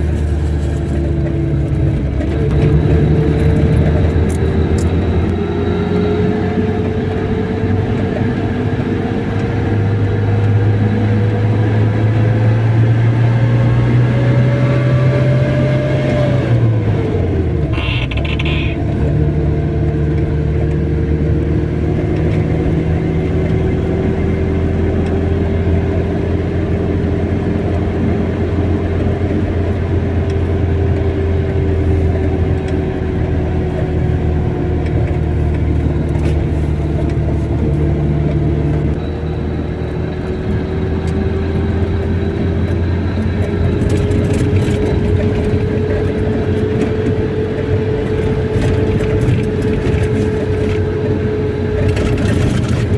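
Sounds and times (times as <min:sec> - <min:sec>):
car engine and road drone: 0:00.0 - 0:52.9.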